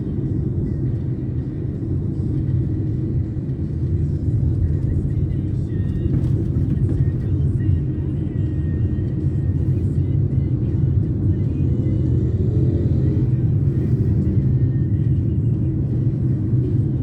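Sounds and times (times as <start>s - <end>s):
car road and engine rumble: 0.0s - 17.0s
faint music playing: 0.0s - 17.0s.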